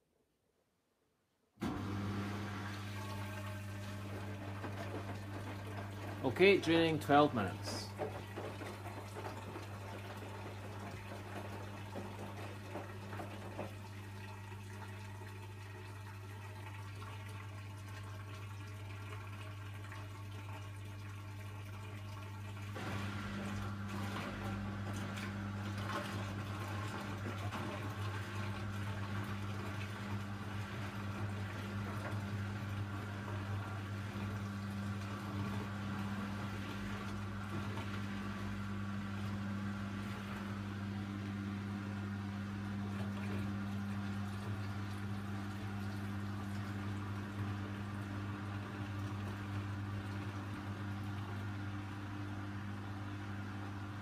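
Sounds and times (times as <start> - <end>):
drain pump humming: 1.6 - 54.0.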